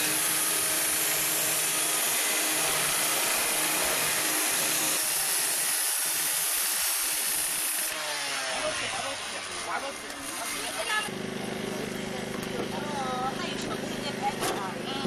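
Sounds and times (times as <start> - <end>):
power saw grinding metal: 0.0 - 15.0.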